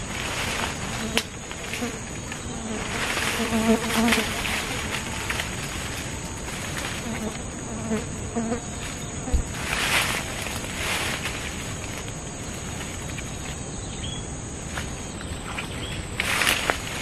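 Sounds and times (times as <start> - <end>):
flying insect buzz: 0.0 - 17.0
high-pitched insect drone: 0.0 - 17.0.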